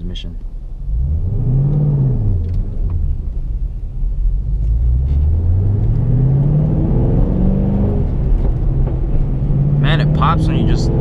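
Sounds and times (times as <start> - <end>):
car engine revving: 0.7 - 11.0.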